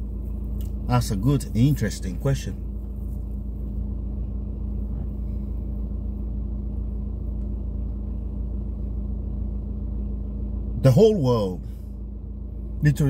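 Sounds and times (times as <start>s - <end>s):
car cabin rumble: 0.0s - 13.0s
constant low hum: 0.0s - 13.0s.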